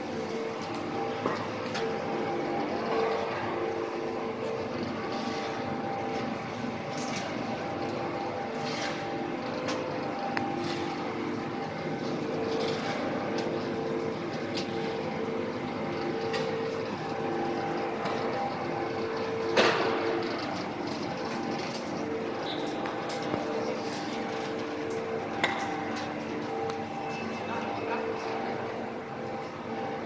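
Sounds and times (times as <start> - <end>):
machine hum with held tone: 0.0 - 30.0.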